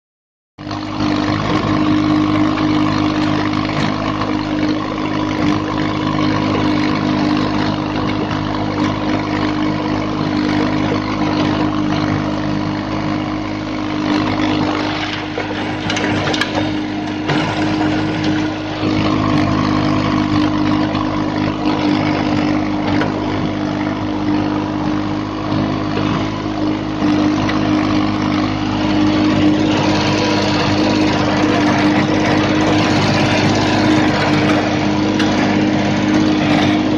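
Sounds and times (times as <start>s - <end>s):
tractor diesel engine running: 0.6s - 36.9s.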